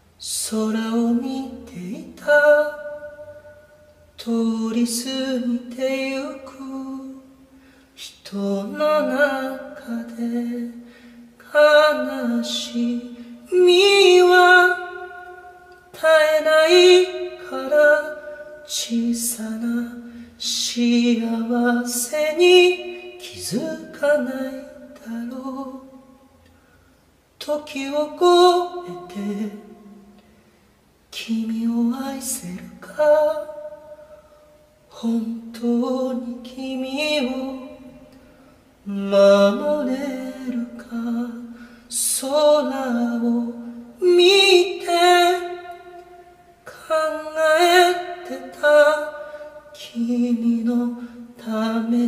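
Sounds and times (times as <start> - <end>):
person singing unaccompanied: 0.0 - 7.4, 8.0 - 26.2, 27.4 - 30.2, 31.1 - 34.2, 34.9 - 38.2, 38.8 - 52.0.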